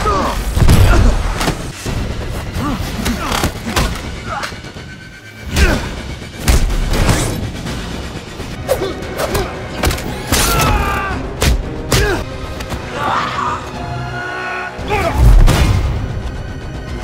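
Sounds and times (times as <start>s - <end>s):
dramatic score music: 0.0s - 17.0s.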